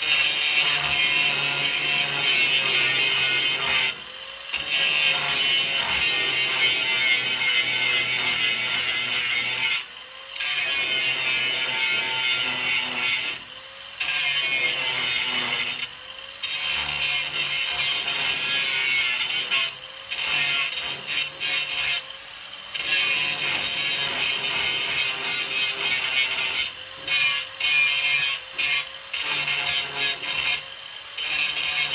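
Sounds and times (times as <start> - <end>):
angle grinder grinding metal: 0.0 - 31.9.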